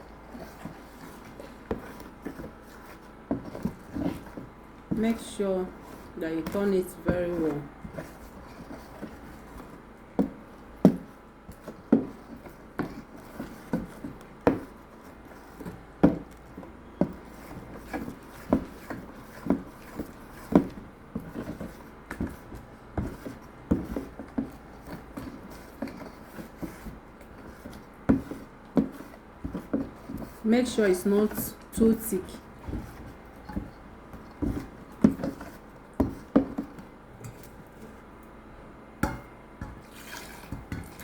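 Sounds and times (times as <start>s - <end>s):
spoon stirring thick batter: 0.0s - 38.4s, 39.0s - 41.0s.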